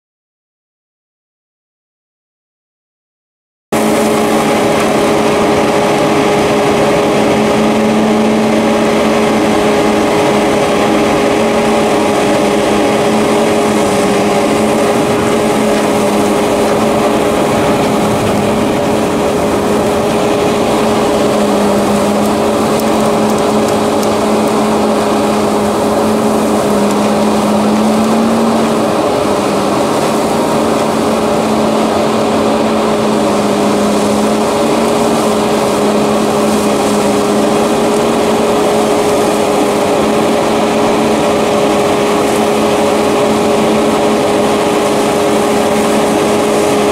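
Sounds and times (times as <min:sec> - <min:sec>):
constant mechanical whine: 0:03.8 - 0:46.9
tractor diesel engine under load: 0:03.8 - 0:46.9.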